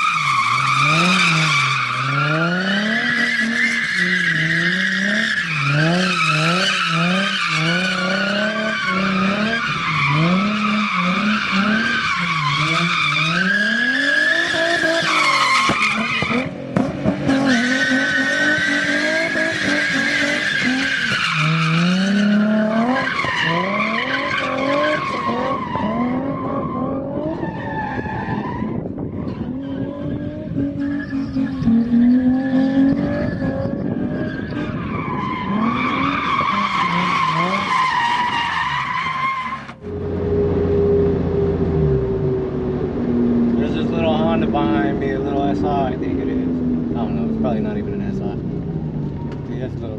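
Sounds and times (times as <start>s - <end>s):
car engine revving: 0.0s - 49.9s
tires squealing: 0.0s - 49.9s.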